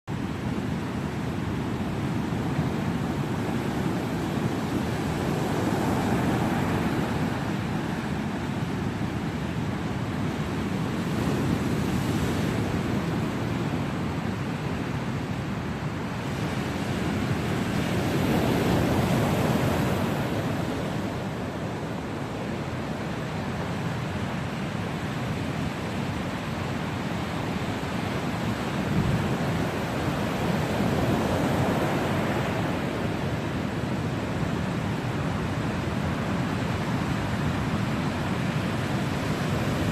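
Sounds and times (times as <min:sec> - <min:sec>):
waves breaking on shore: 0:00.1 - 0:39.9.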